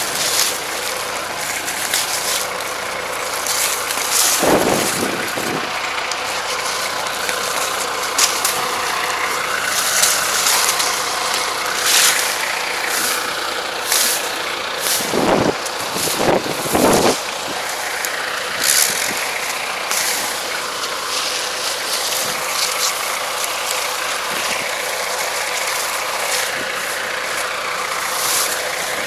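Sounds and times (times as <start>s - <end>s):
dry vines and grass rustling: 0.0s - 29.0s
tractor engine running: 0.0s - 29.0s.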